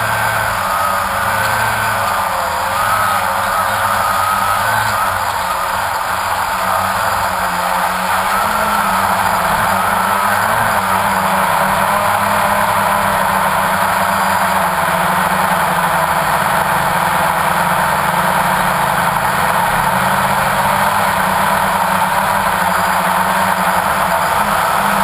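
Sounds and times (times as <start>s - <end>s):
drone motors humming: 0.0s - 25.0s.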